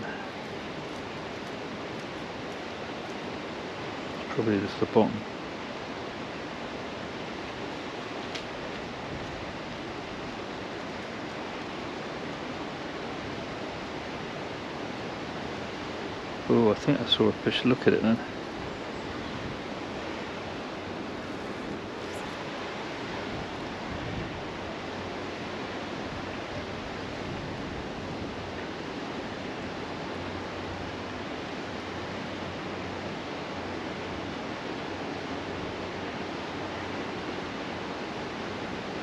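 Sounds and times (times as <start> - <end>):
rushing outdoor background noise: 0.0 - 39.0.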